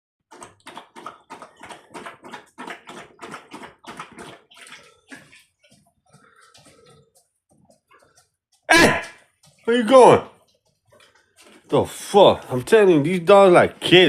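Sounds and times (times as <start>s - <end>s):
dog lapping water: 0.3s - 14.0s.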